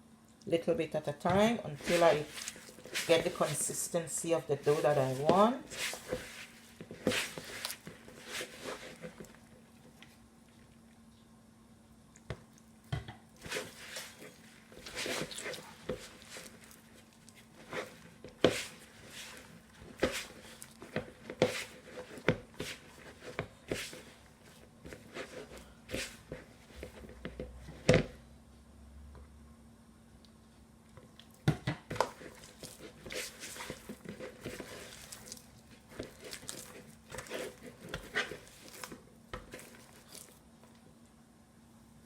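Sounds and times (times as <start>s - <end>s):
faint steady hum: 0.0s - 42.0s
dough squelching: 0.5s - 10.4s, 12.2s - 28.2s, 31.1s - 41.0s.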